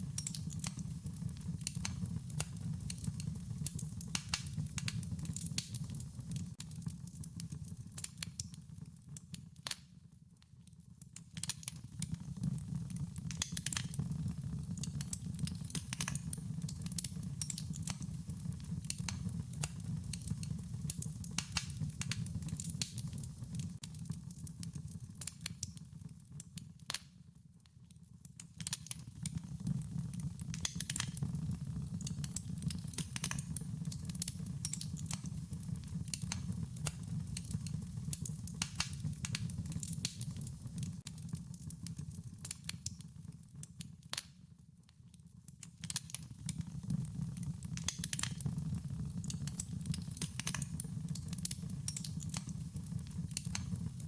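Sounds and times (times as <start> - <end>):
fire pops and snaps: 0.0 - 27.2, 28.2 - 44.6, 45.4 - 54.0.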